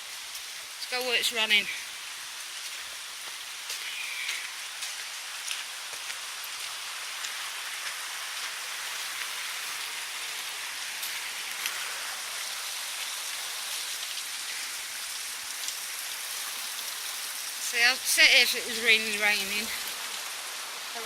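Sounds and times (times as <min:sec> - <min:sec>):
river water running: 0:00.0 - 0:21.0.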